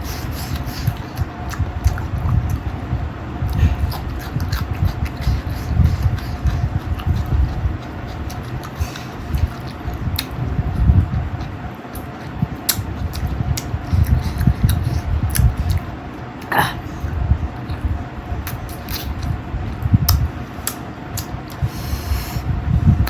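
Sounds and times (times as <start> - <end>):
person chewing food: 0.0 - 22.5
mouth clicks and smacks: 0.3 - 2.7, 3.5 - 16.8, 17.6 - 22.0.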